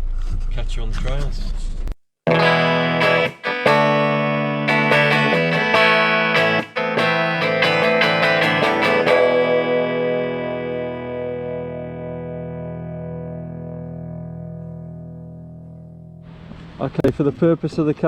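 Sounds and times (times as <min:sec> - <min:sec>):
electric guitar music: 0:02.3 - 0:16.8.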